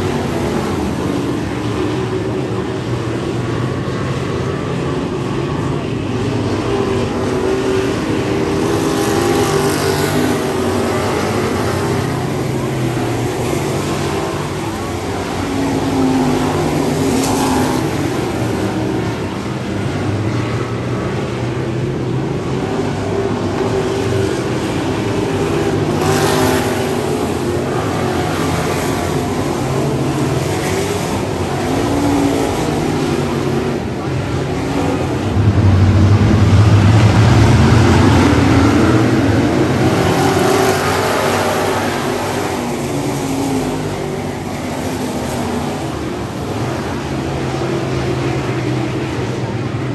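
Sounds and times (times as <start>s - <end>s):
race car engines: 0.0s - 49.9s.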